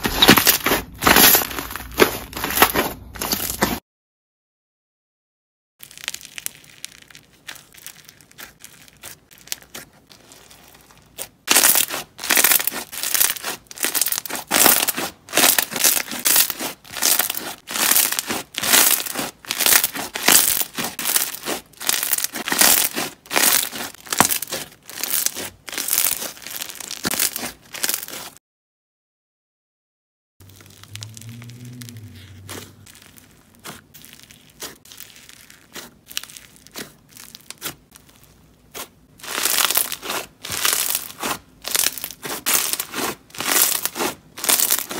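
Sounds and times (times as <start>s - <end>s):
slime crackling and crunching: 0.0s - 3.8s, 5.8s - 28.4s, 30.4s - 44.9s.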